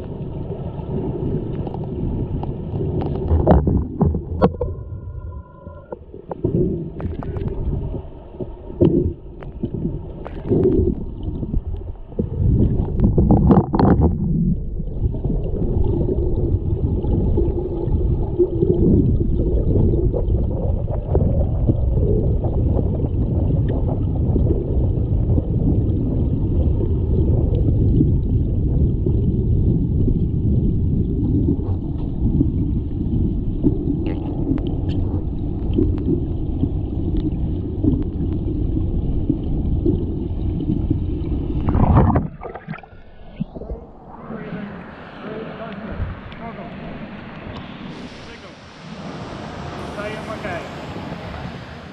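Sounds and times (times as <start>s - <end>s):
underwater rumble and gurgle: 0.0s - 51.9s
underwater splash: 0.0s - 51.9s.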